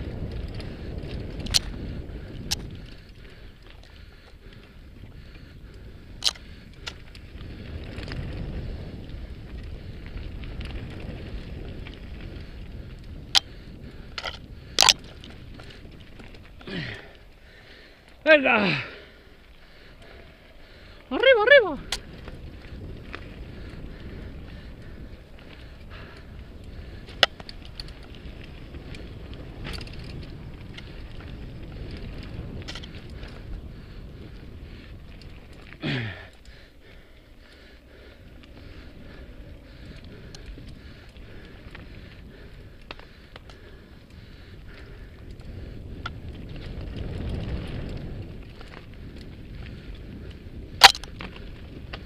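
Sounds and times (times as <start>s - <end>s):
bike tyres rumbling on gravel: 0.0s - 52.0s
wind: 0.0s - 52.0s.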